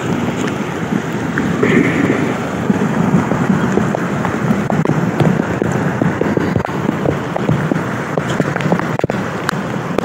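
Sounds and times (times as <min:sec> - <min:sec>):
heavy rain: 0:00.0 - 0:10.0
rushing floodwater: 0:00.0 - 0:10.0.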